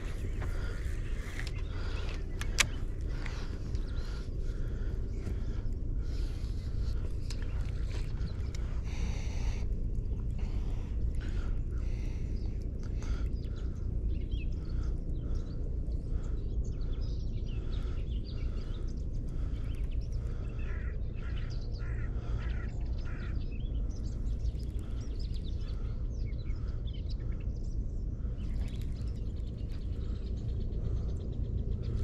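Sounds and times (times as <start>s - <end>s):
small birds chirping: 0.0s - 32.0s
steady low rumble: 0.0s - 32.0s.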